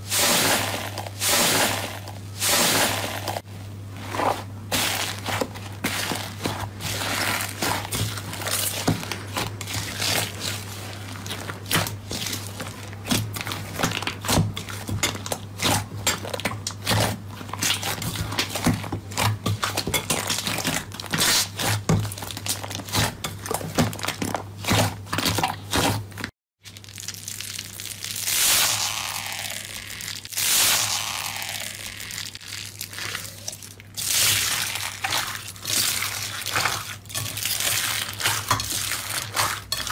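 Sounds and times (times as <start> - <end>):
crunchy slime crackling: 0.0 - 39.9.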